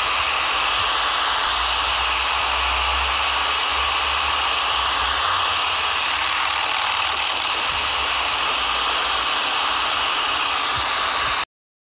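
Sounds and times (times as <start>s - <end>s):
static hiss: 0.0s - 11.5s.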